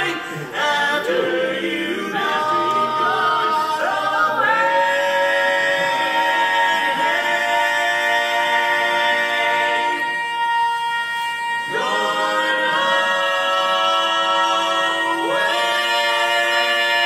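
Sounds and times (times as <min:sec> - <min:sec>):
male quartet singing a cappella: 0:00.0 - 0:17.0.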